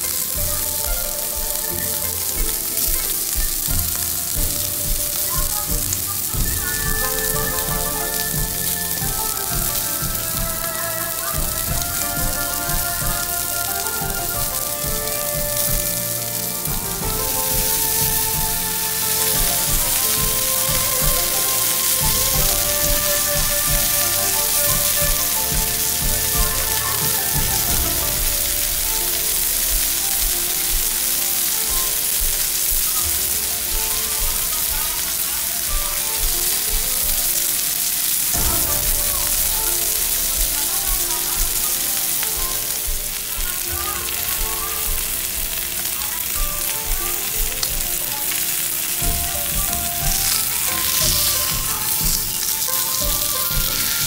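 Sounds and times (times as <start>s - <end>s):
background music held notes: 0.0s - 54.0s
steak sizzling on griddle: 0.0s - 54.0s.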